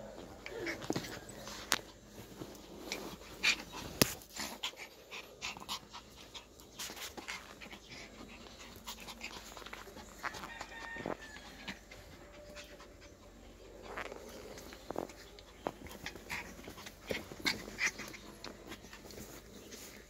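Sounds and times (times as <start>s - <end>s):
dogs panting: 0.0s - 20.0s
dogs play-fighting: 0.0s - 20.0s.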